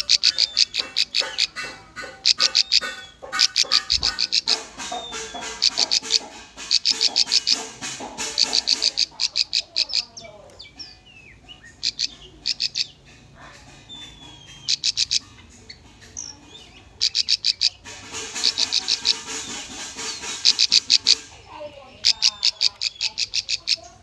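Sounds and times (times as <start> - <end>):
bird calling in sharp high chips: 0.0 - 24.0
soft bird twittering and whistles: 0.0 - 24.0.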